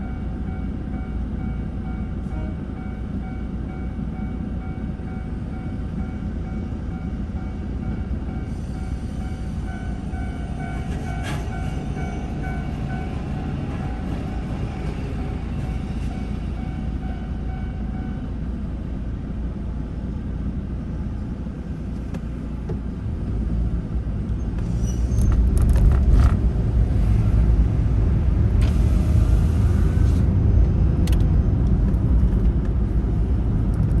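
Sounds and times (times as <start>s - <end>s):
moving vehicle rumble: 0.0s - 34.0s.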